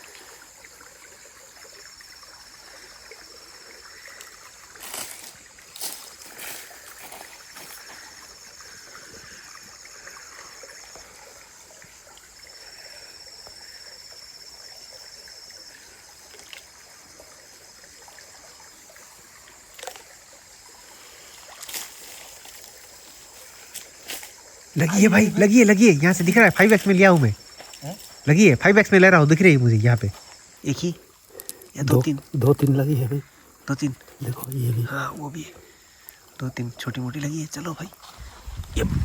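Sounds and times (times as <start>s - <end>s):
creek water trickling: 0.0s - 39.0s
high insect trill: 0.0s - 39.0s.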